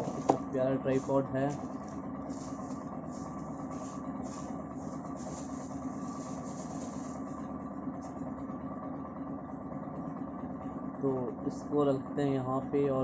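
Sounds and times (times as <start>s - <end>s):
engine-like hum: 0.0s - 13.0s.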